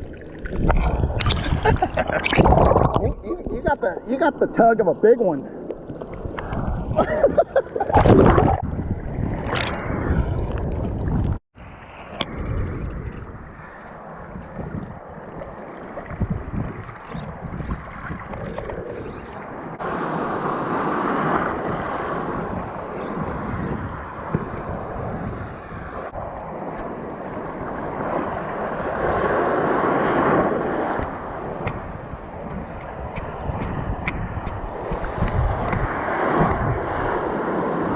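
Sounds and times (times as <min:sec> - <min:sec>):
wind buffeting microphone: 0:00.0 - 0:04.8, 0:05.4 - 0:37.9
surf washing: 0:00.0 - 0:37.9.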